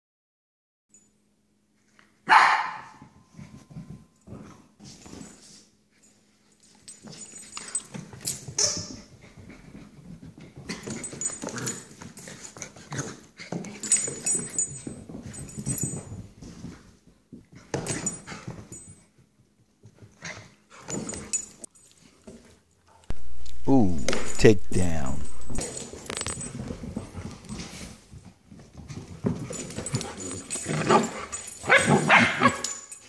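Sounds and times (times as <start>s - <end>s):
dogs play-fighting: 1.9s - 23.2s, 25.3s - 33.0s.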